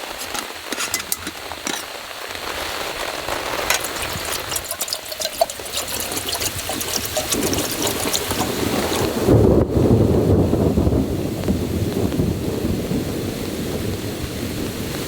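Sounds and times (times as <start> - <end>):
heavy rain on a tarp: 0.0 - 4.7, 7.0 - 15.0.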